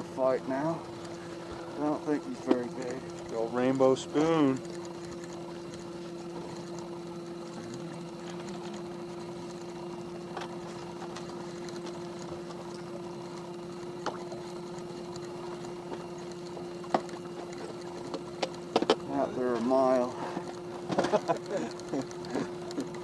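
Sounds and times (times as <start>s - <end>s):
small boat motor humming: 0.0s - 23.0s.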